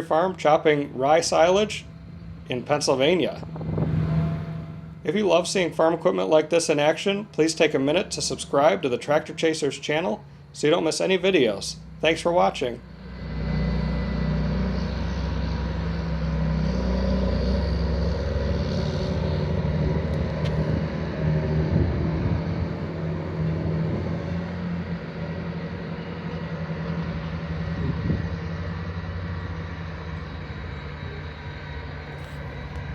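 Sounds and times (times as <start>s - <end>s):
diesel engine rumbling: 0.0s - 32.9s.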